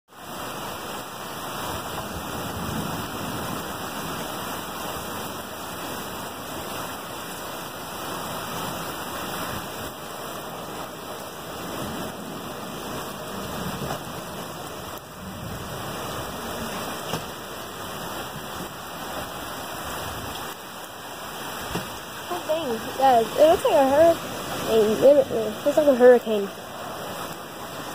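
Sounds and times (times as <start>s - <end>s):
heavy rain pouring: 0.1s - 27.9s.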